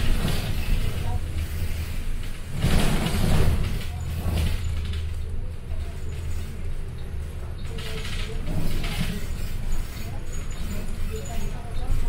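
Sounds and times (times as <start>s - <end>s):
bus engine drone: 0.0s - 12.0s
tyre and road noise: 0.0s - 12.0s.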